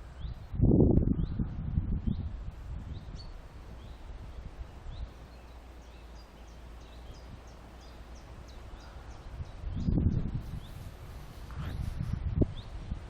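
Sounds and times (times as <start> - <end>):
songbird chirping: 0.0 - 11.0
low outdoor rumble: 0.0 - 13.0.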